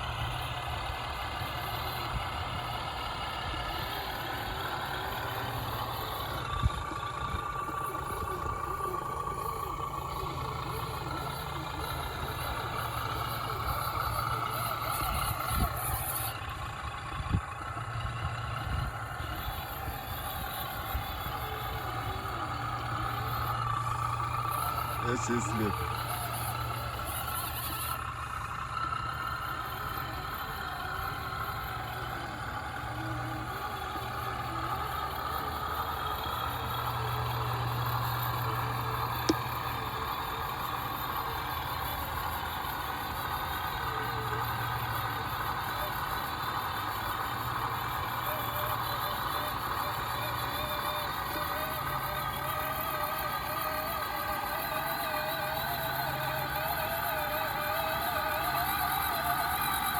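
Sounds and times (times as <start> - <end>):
electric motor whine: 0.0 - 59.9.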